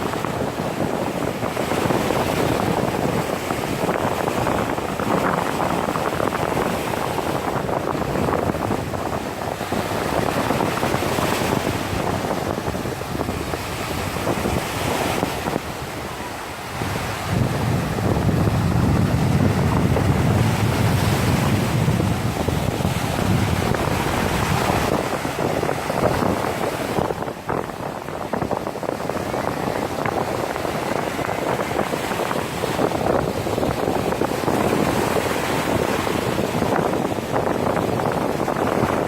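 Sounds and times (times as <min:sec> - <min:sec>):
surf washing up a sandy beach: 0:00.0 - 0:39.0.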